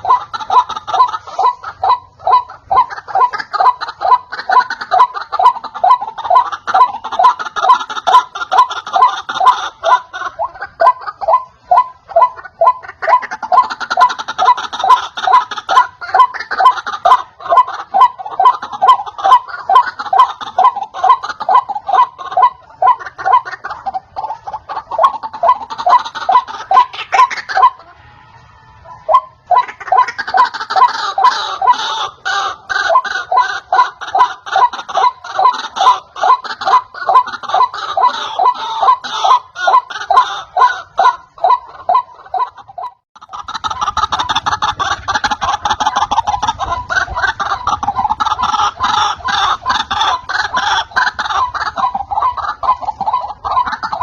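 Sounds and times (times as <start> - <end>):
waterhen croaking calls: 0.0 - 54.0.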